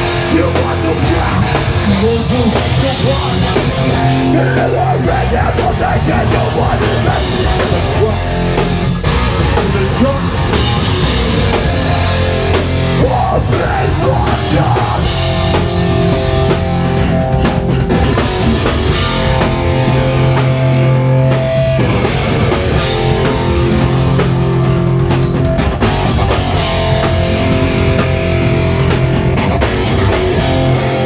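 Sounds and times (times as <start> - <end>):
bass guitar: 0.0 - 31.0
distorted electric guitars: 0.0 - 31.0
pounding drum kit: 0.0 - 31.0.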